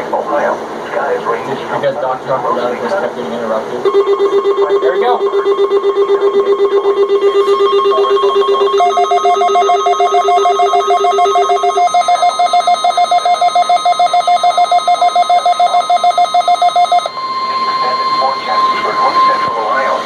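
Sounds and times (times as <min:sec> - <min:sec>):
high-pitched rapid electronic beeping: 0:03.8 - 0:20.0
low-pitched rapid electronic beeping: 0:03.8 - 0:20.0.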